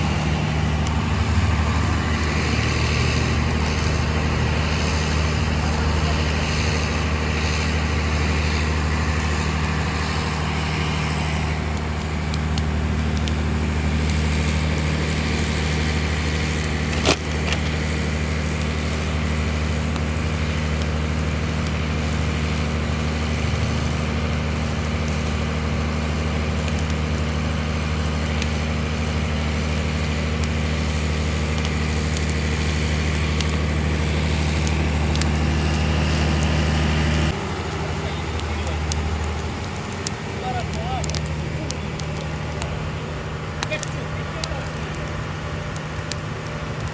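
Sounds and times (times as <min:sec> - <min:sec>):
sharp crack of fire: 0:00.0 - 0:46.9
wood fire crackling: 0:00.0 - 0:46.9.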